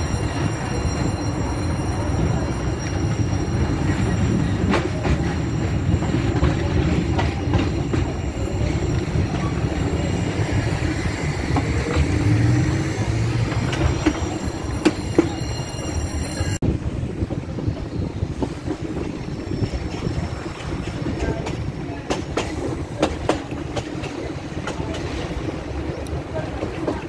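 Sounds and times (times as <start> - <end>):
train wheels rumbling on rails: 0.0 - 27.0
rail joint clicks: 0.2 - 16.6, 18.3 - 27.0.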